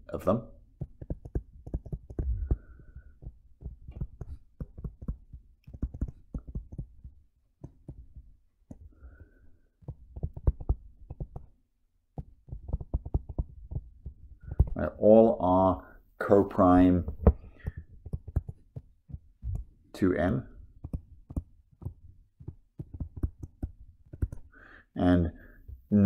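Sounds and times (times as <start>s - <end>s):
stylus tapping on tablet screen: 0.7s - 15.4s, 16.6s - 19.9s, 20.6s - 24.6s.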